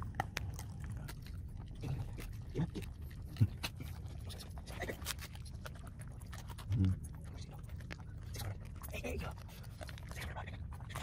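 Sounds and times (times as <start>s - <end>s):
dog chewing and crunching food: 0.0s - 11.0s.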